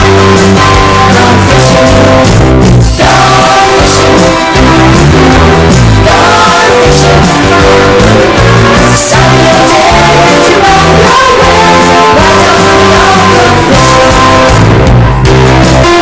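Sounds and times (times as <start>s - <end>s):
distorted pop song with guitar: 0.0s - 16.0s.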